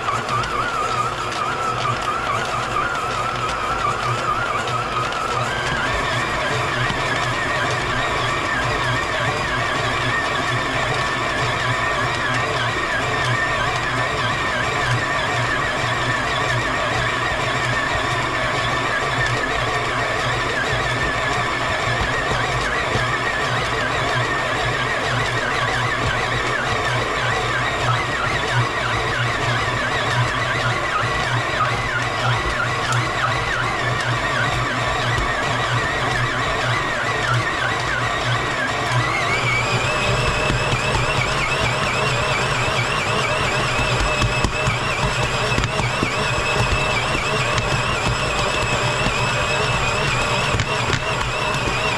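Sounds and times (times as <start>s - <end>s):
stand mixer motor hum: 0.0s - 51.9s.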